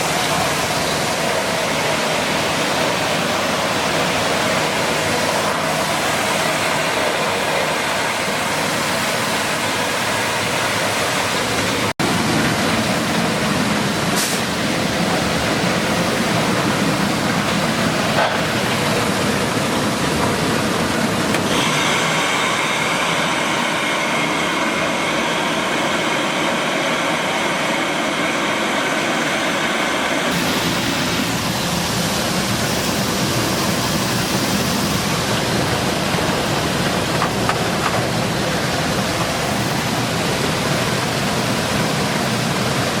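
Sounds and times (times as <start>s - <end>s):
milling machine running: 0.0s - 43.0s.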